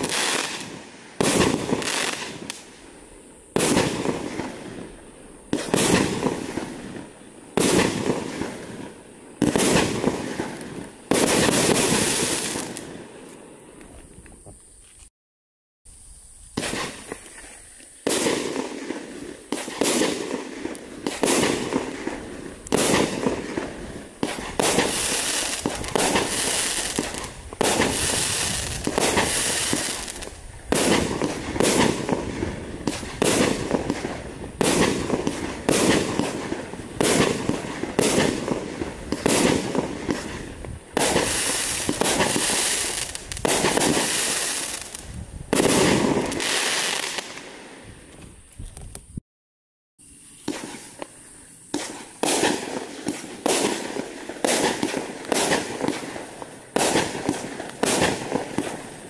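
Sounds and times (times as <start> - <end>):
firework barrage bangs: 0.0 - 2.7, 3.5 - 12.9, 16.6 - 17.2, 18.1 - 47.5, 51.7 - 58.9.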